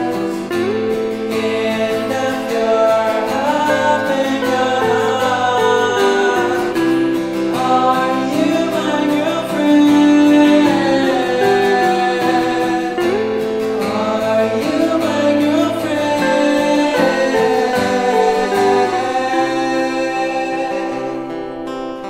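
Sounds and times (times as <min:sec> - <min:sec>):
guitar accompaniment: 0:00.0 - 0:22.0
person singing: 0:00.0 - 0:22.0.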